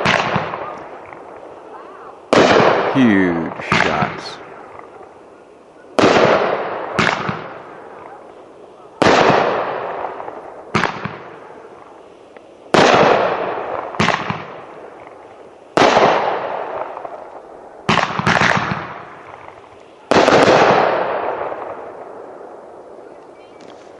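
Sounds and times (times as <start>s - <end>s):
firework shells exploding: 0.0s - 5.3s, 5.9s - 23.9s.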